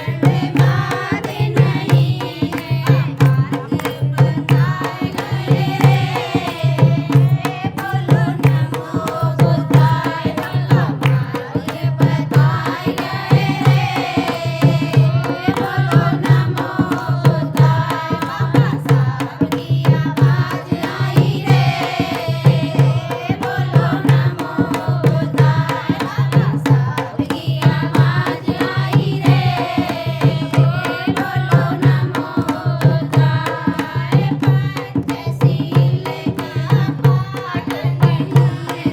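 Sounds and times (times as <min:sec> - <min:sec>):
hand drum beat: 0:00.0 - 0:38.9.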